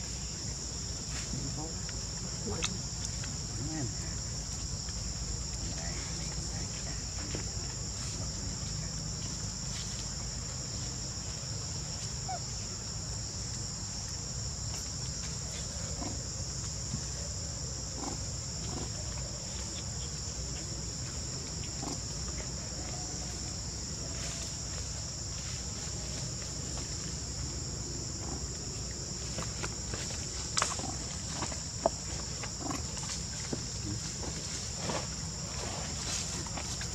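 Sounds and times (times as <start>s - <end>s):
shrill insect chorus: 0.0s - 36.9s.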